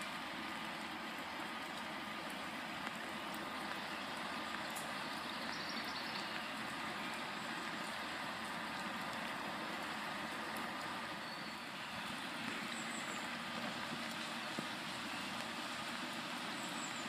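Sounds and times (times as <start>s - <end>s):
diesel train running: 0.0s - 17.0s.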